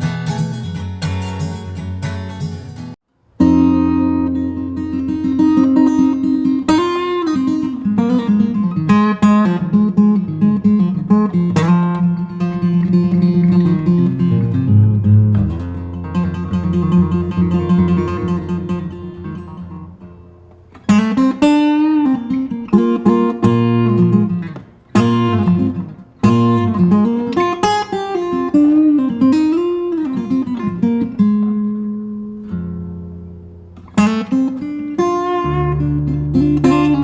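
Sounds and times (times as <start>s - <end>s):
acoustic guitar music: 0.0s - 37.0s.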